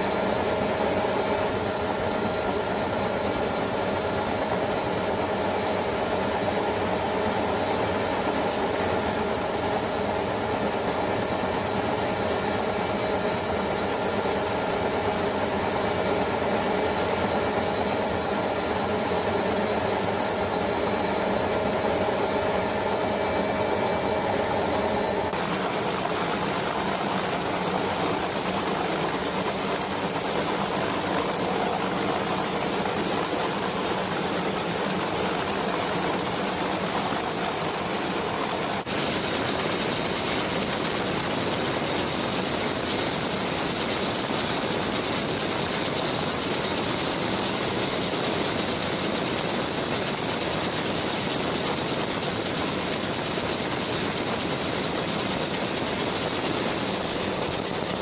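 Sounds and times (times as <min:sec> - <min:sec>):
aircraft engine and airflow: 0:00.0 - 0:58.0.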